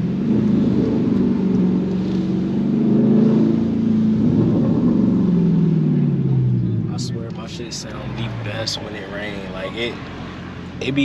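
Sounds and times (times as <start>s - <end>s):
car engine exhaust under throttle: 0.0s - 11.0s.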